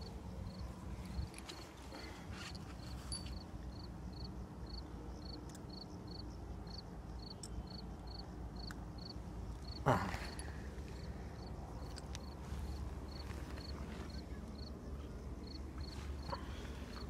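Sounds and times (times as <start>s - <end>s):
cricket chirping: 0.0s - 17.0s
low steady rumble: 0.0s - 17.0s.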